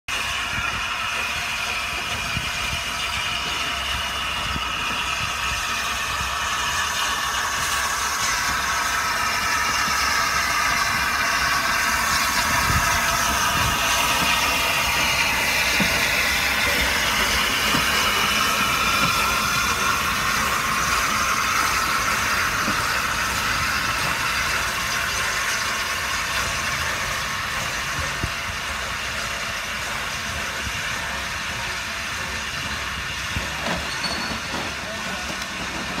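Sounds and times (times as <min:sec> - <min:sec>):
steam locomotive hissing and rumbling: 0:00.0 - 0:36.0.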